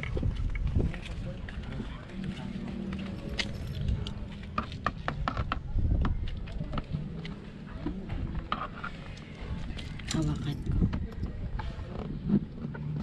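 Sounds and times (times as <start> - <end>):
low rumble on microphone: 0.0 - 13.0.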